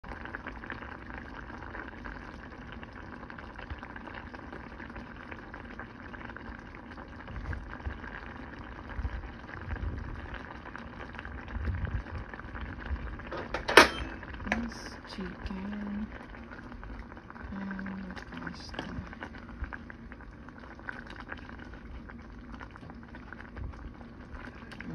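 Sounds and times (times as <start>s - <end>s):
sauce bubbling in a saucepan: 0.0s - 24.9s.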